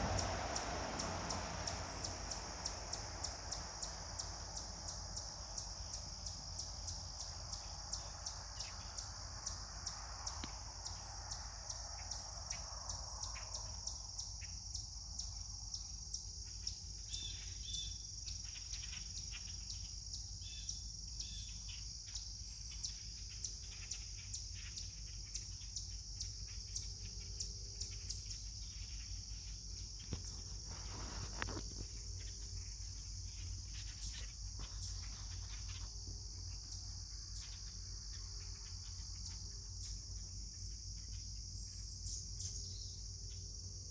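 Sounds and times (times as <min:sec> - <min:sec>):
high-pitched insect trill: 0:00.0 - 0:43.9.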